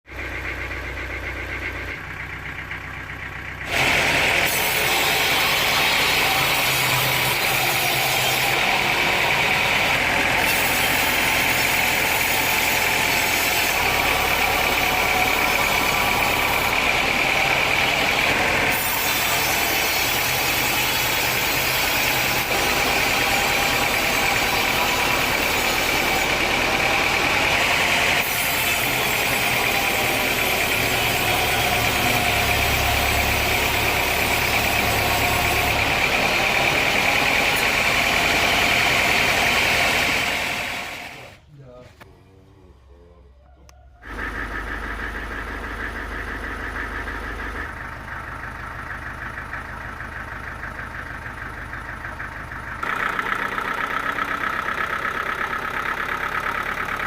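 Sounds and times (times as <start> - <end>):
sawmill machinery running: 0.1 - 57.0.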